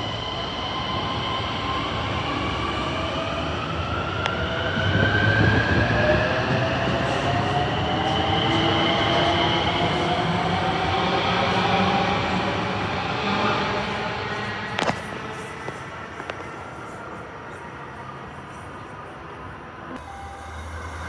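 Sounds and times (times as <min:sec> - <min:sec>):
train whine rising in pitch: 0:00.0 - 0:18.8, 0:19.8 - 0:21.0.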